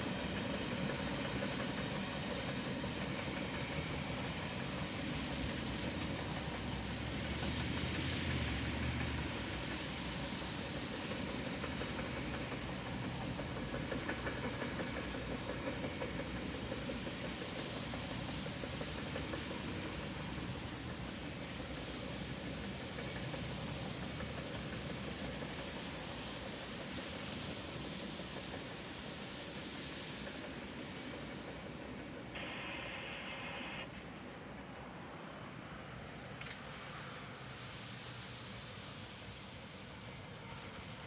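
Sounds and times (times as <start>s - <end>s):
steel wheels rumbling on rail: 0.0s - 41.0s.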